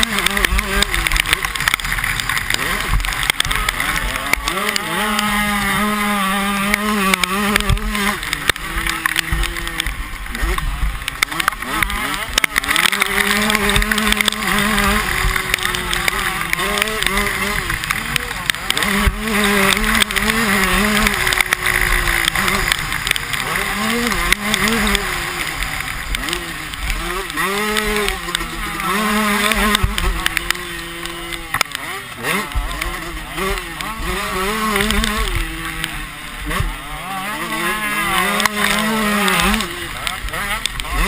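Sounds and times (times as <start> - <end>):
motocross bike engines revving: 0.0 - 41.0.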